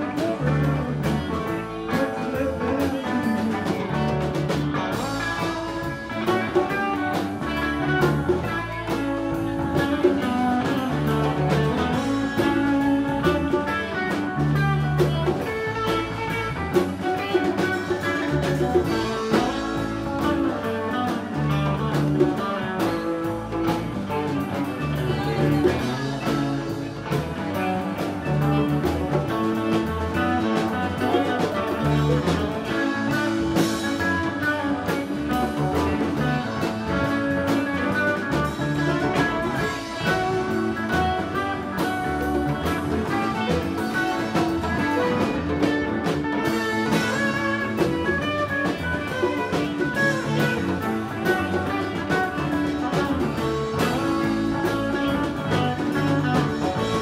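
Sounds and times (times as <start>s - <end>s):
live band playing: 0.0s - 57.0s.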